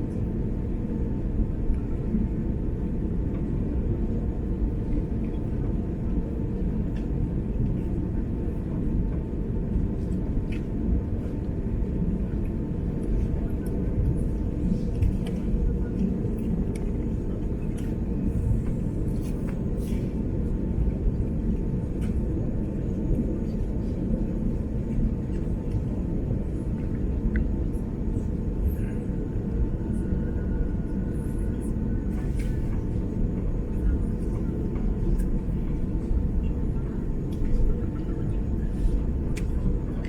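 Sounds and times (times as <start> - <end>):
aircraft cabin rumble: 0.0 - 40.0.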